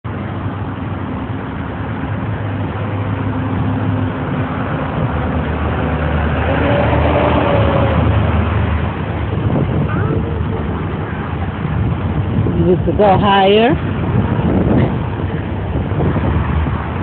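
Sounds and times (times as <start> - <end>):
low engine rumble: 0.0 - 17.0
higher hum: 0.1 - 17.0.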